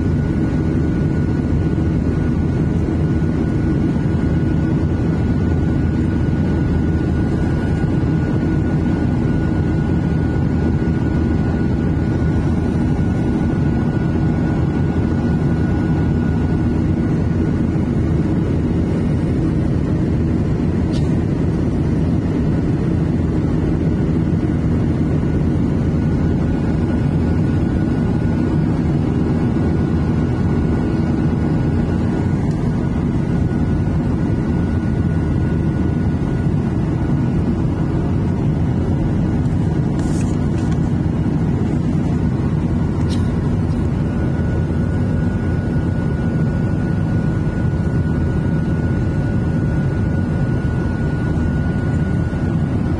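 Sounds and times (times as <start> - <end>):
airplane cabin roar: 0.0 - 52.9
thin steady whine: 0.0 - 52.9.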